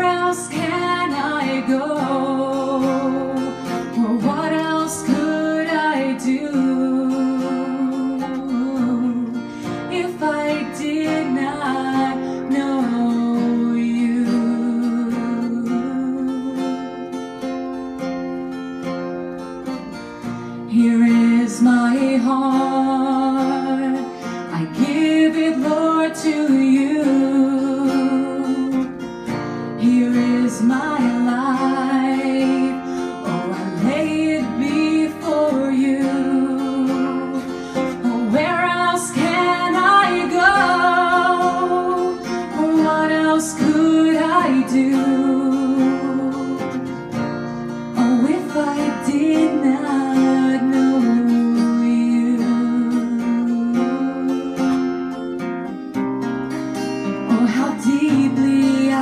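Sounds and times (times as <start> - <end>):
woman singing: 0.0 - 17.6, 19.7 - 56.3, 56.9 - 59.0
acoustic guitar strumming: 0.0 - 59.0.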